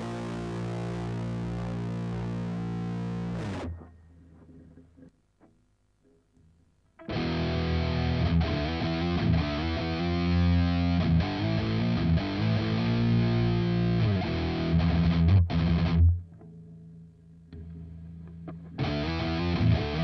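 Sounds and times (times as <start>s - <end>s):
distorted electric guitar: 0.0s - 4.6s, 7.0s - 16.6s, 17.5s - 20.0s.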